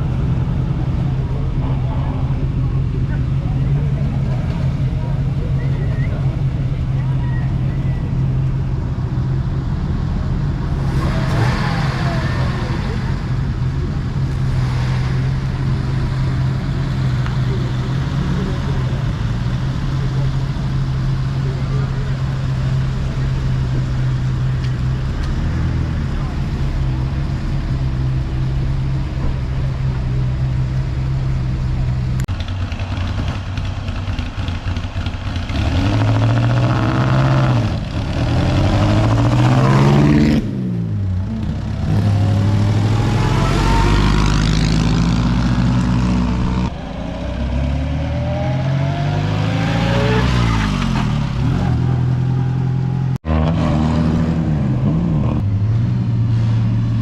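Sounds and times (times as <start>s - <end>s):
car engines idling: 0.0s - 53.3s
cars revving and accelerating past: 0.0s - 57.0s.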